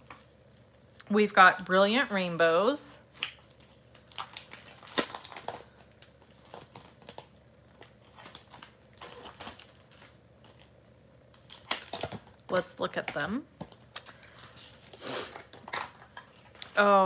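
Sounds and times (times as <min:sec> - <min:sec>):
plastic sleeve crinkling: 0:03.0 - 0:17.0.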